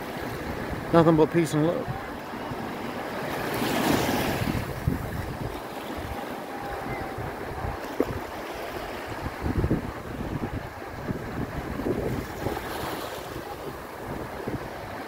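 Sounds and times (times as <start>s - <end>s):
wind buffeting microphone: 0.0s - 1.2s, 1.8s - 15.0s
small waves on sandy beach: 0.0s - 15.0s.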